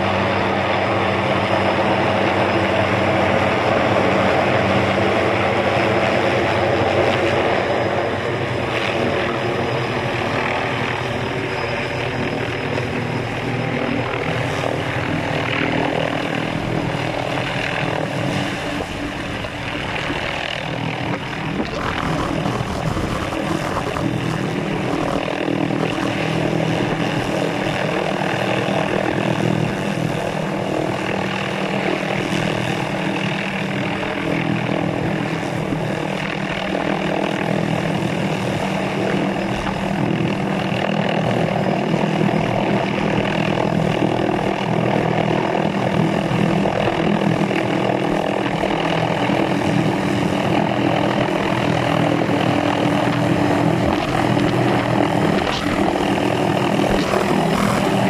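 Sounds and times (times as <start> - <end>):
helicopter rotor beating: 0.0 - 58.0
turbine whine: 0.0 - 58.0.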